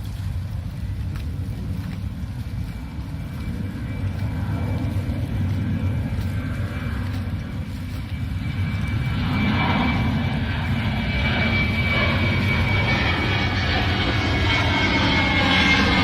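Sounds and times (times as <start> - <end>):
airplane engines at takeoff: 0.0 - 16.0.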